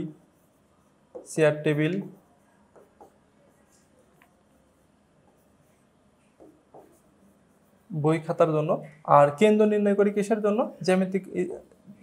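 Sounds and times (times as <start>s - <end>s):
marker scratching on whiteboard: 0.0s - 12.0s.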